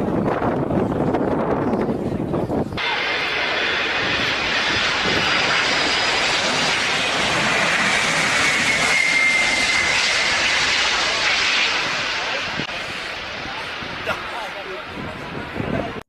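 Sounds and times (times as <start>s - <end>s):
high turbine whine: 2.8s - 16.0s
jet engines roaring: 2.8s - 16.0s.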